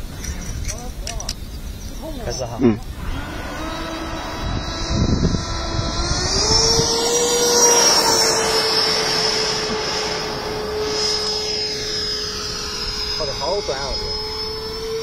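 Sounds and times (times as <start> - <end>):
small propeller motor whining: 2.1 - 15.0.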